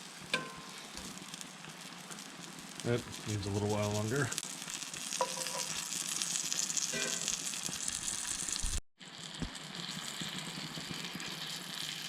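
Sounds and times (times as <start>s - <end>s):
butter sizzling in a frying pan: 0.0s - 12.0s.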